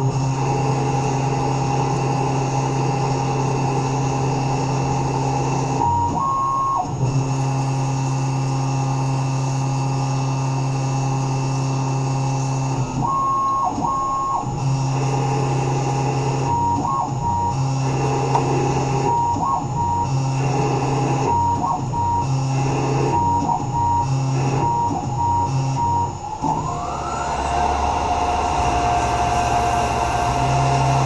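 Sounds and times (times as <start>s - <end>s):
mill motor hum: 0.0s - 31.0s.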